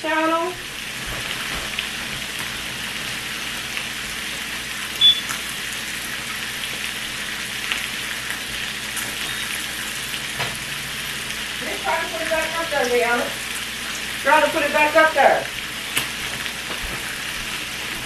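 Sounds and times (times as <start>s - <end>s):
bacon sizzling in a frying pan: 0.0s - 18.0s.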